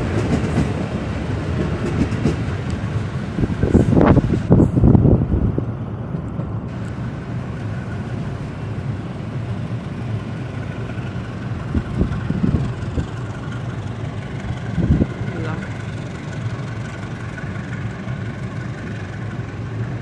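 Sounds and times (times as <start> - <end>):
train knocks: 0.0 - 20.0
train rumble: 0.0 - 20.0.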